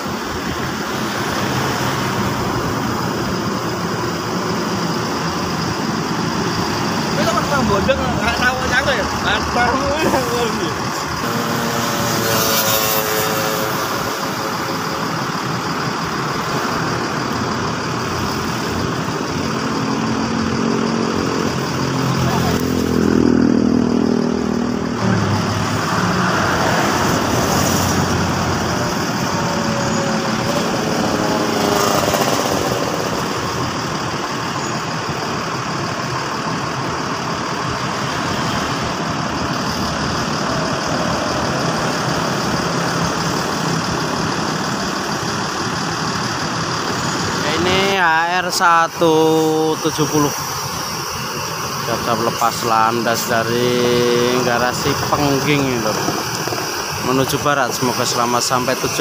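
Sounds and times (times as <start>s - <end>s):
buses idling: 0.0s - 59.0s
coach engine pulling out: 0.0s - 59.0s.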